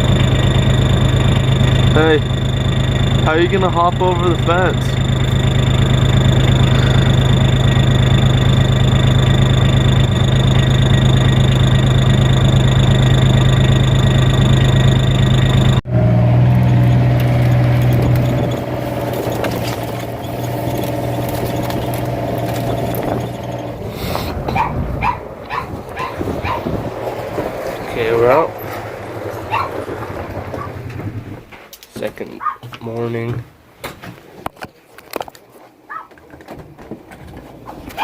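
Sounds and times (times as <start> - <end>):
vehicle engine humming: 0.0 - 32.2.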